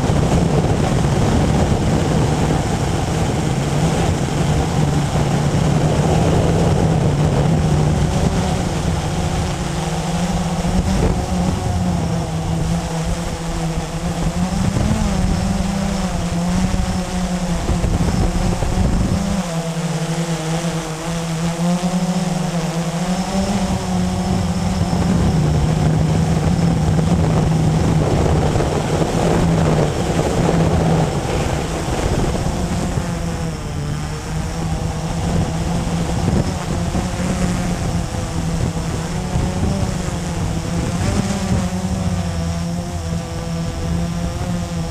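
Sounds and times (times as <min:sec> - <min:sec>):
quadcopter propellers humming: 0:00.0 - 0:44.9.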